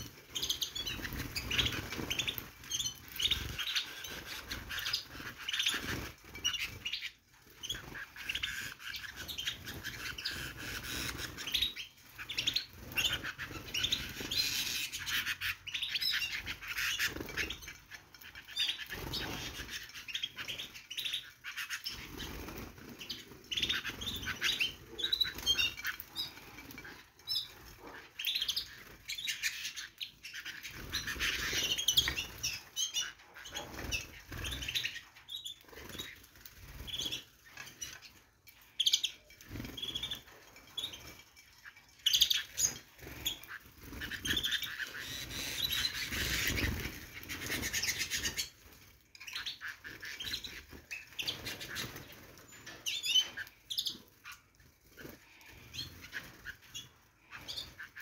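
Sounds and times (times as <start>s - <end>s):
wings fluttering: 0.0s - 20.8s, 21.5s - 29.8s, 38.8s - 58.0s
canaries chirping: 0.0s - 58.0s.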